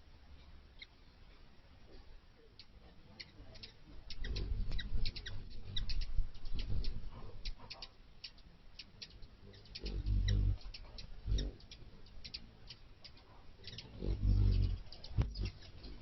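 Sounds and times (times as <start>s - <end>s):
hummingbird chip notes: 2.6s - 16.0s
hummingbird wing hum: 2.6s - 16.0s.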